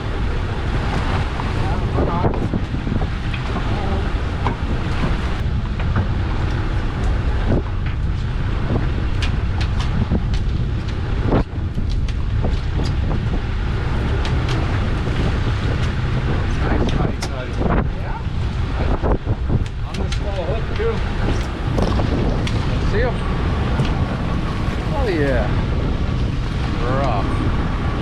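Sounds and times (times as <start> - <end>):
boat engine running: 0.0 - 28.0
wind buffeting microphone: 0.0 - 28.0
knocks and clicks on boat: 0.8 - 17.9, 18.9 - 24.6.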